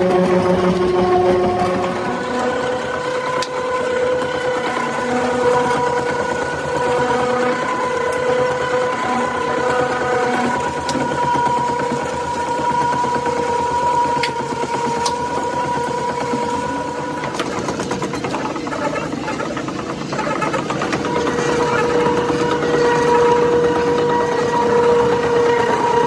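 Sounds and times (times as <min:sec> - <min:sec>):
mixer mechanical whine: 0:00.0 - 0:26.0.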